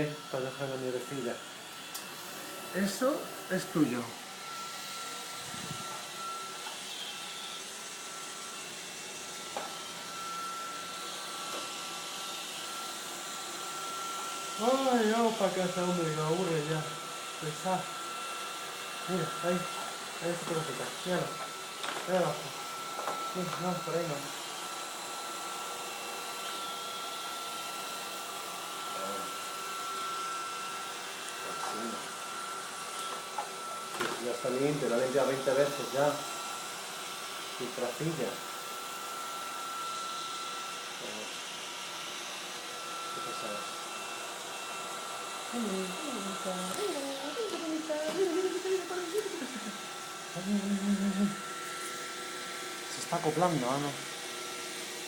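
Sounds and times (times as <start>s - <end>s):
high-pitched motor whine: 0.0s - 36.4s, 44.5s - 55.0s
robot vacuum whirring: 0.0s - 55.0s.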